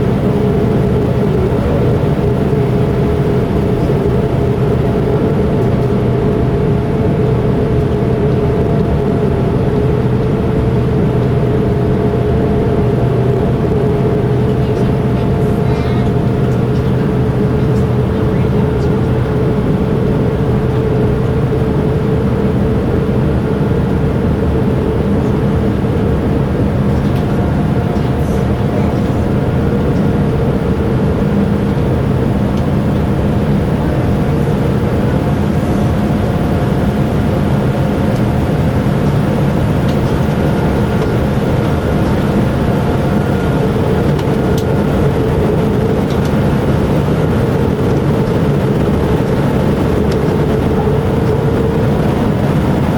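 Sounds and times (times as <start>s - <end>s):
jet engine and airflow drone: 0.0s - 52.9s.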